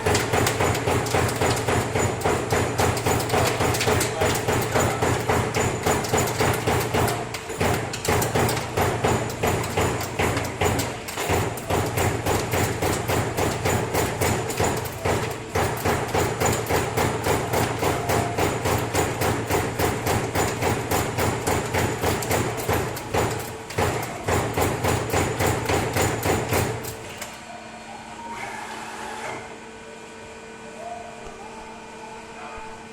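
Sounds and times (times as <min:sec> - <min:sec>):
punch press striking sheet metal: 0:00.0 - 0:27.4
steady machine hum: 0:00.0 - 0:32.9.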